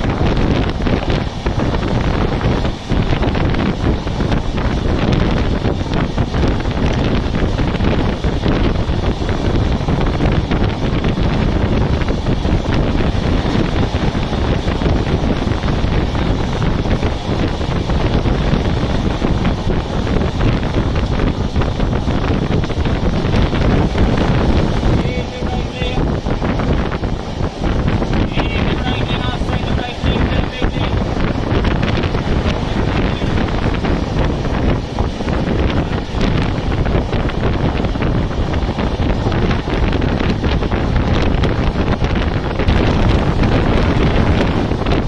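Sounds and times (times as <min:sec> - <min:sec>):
train wheels rumbling on track: 0:00.0 - 0:45.0
wind buffeting microphone: 0:00.0 - 0:45.0.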